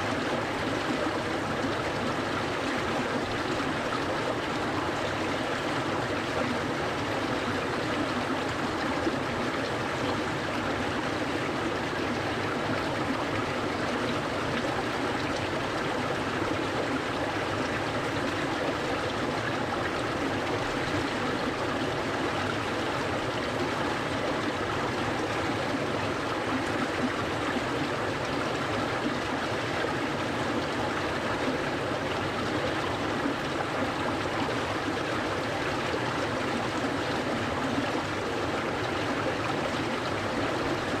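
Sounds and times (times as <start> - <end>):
stream flowing: 0.0 - 41.0.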